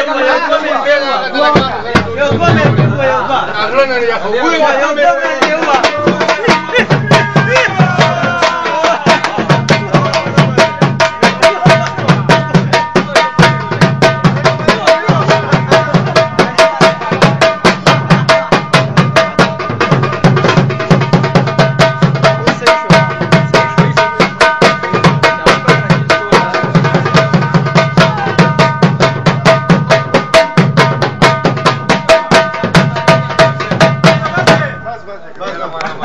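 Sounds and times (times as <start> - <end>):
hand drum rhythm: 1.4 - 3.2, 5.2 - 34.8.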